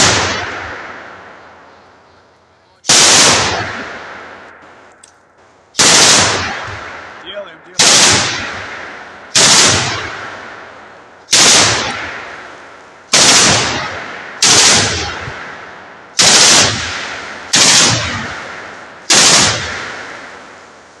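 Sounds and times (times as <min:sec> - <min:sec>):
autocannon firing bursts: 0:00.0 - 0:01.8, 0:02.8 - 0:05.0, 0:05.7 - 0:20.6.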